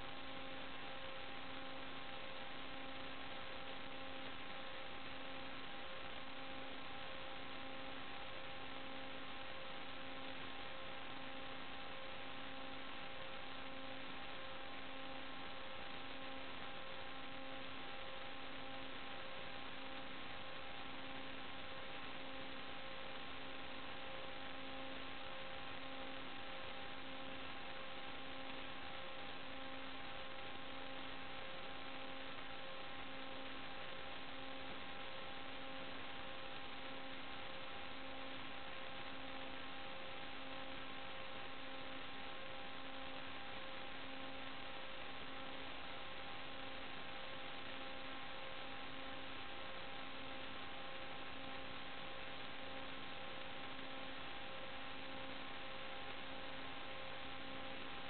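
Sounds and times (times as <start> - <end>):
constant hum: 0.0 - 58.0.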